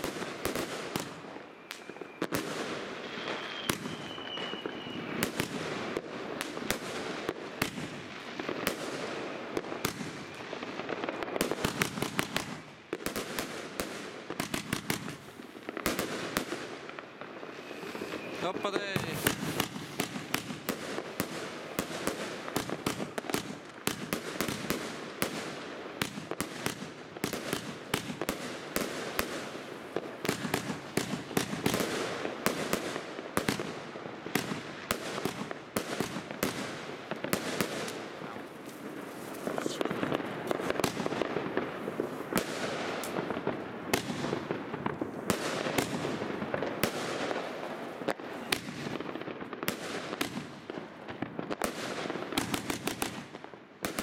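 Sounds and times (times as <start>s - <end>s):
fireworks barrage: 0.0s - 54.0s.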